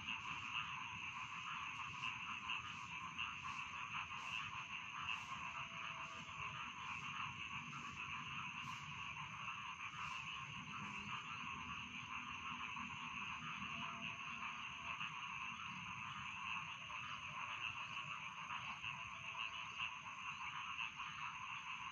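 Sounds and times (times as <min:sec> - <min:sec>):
frogs croaking in chorus: 0:00.0 - 0:21.9.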